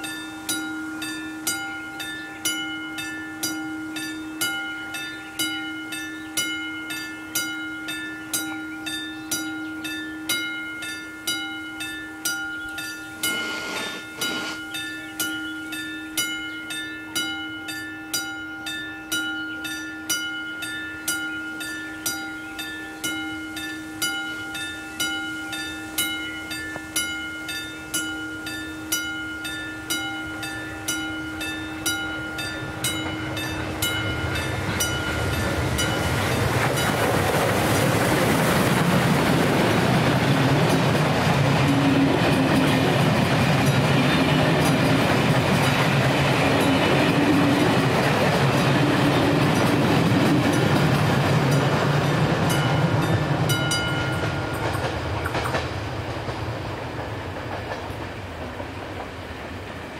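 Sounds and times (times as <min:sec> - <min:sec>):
train wheels clattering on rails: 0:00.0 - 0:17.9, 0:18.7 - 0:59.9
level crossing warning bell: 0:00.0 - 0:55.6.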